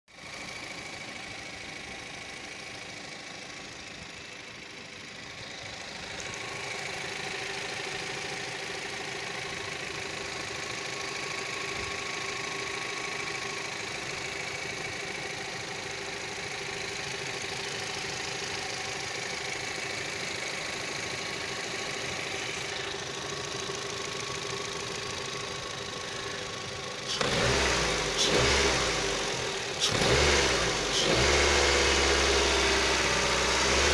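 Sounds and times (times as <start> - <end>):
engine running: 0.2 - 33.9.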